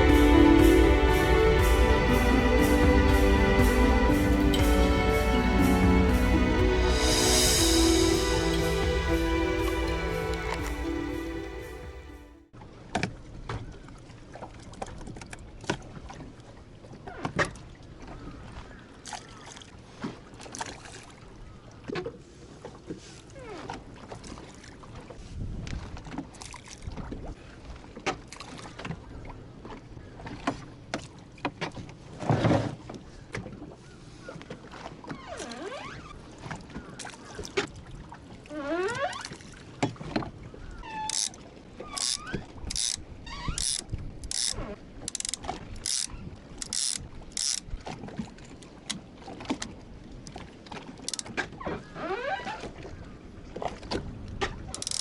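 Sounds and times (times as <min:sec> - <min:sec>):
water: 0:00.0 - 0:55.0
wind: 0:00.0 - 0:55.0.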